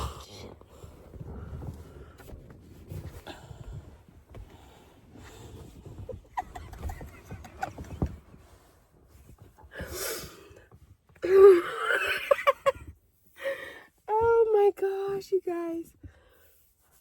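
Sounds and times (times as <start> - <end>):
rustling in a tent: 0.0 - 17.0.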